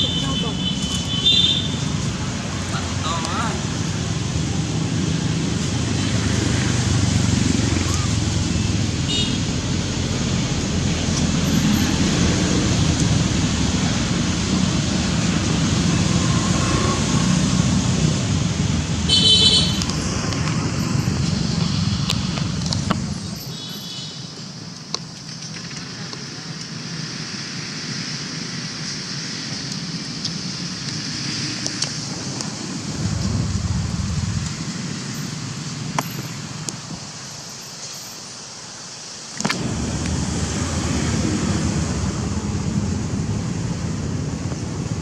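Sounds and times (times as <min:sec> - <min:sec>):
low rumble of road traffic: 0:00.0 - 0:45.0.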